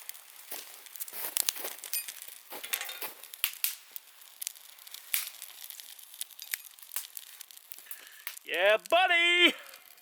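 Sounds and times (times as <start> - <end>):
crunching and cracking: 0.0 - 10.0.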